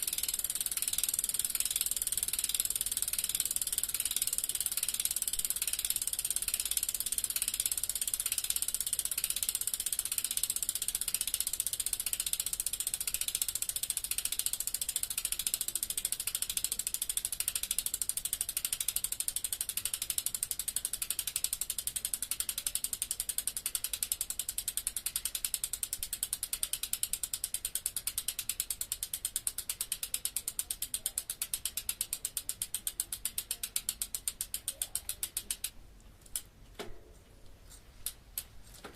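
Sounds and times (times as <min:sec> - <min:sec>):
bicycle freewheel ticking: 0:00.0 - 0:36.5.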